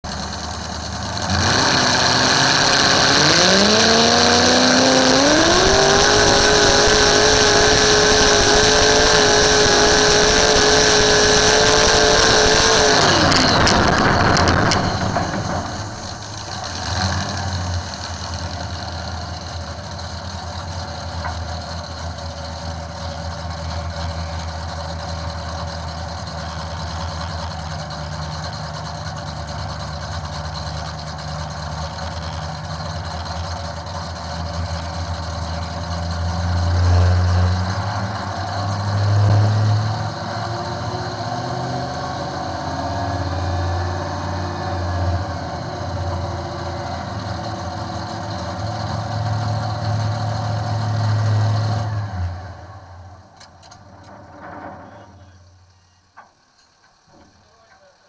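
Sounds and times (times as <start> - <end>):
tractor engine revving: 0.0 - 56.3.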